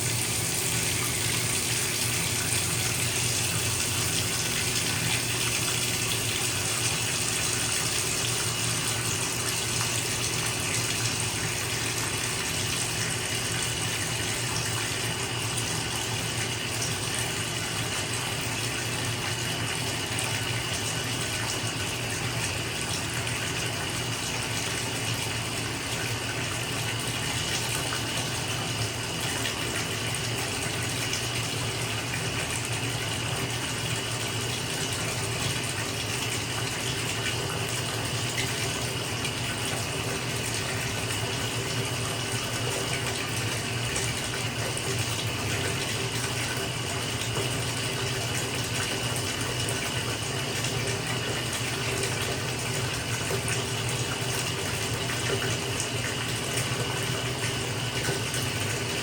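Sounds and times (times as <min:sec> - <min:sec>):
water pouring into bathtub: 0:00.0 - 0:59.0.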